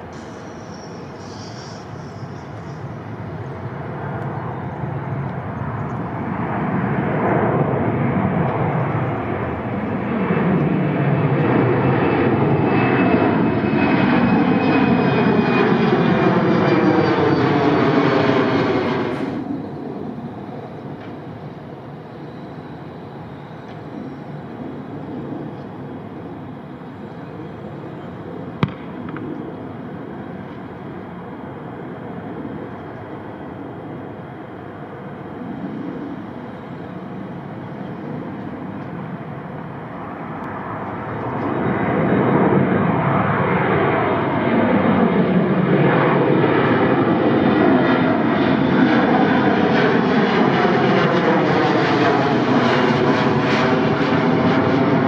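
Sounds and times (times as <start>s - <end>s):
airplane engine rumble: 0.0s - 55.0s.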